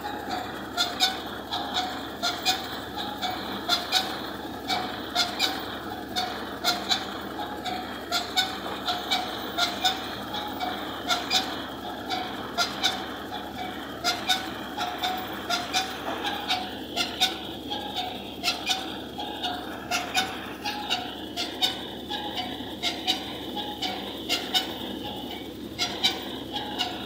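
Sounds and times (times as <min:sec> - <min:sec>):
thresher mechanical din: 0:00.0 - 0:27.0.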